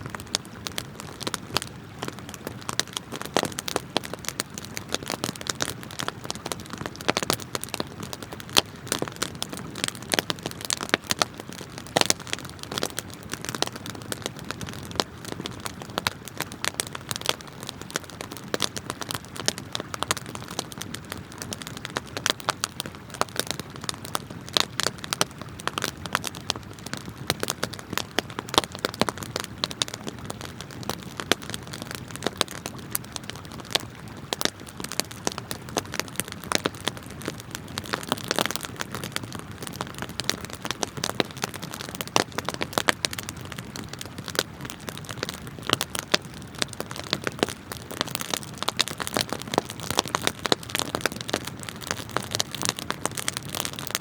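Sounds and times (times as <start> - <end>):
flowing river water: 0.0 - 51.0
wood fire crackling and popping: 0.0 - 54.0.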